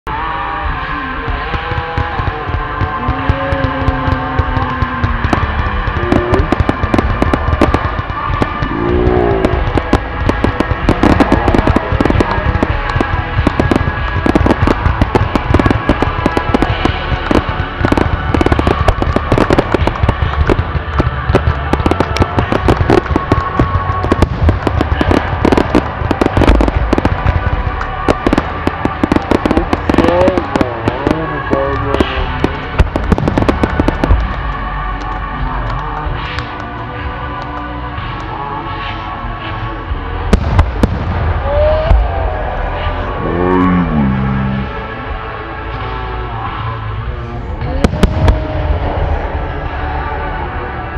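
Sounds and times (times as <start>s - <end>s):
fireworks bursting and crackling: 0.1s - 50.9s.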